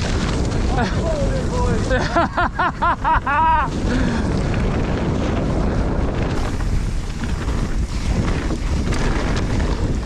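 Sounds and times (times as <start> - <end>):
bike ticking and rattling: 0.0 - 10.0
wind buffeting microphone: 0.0 - 10.0.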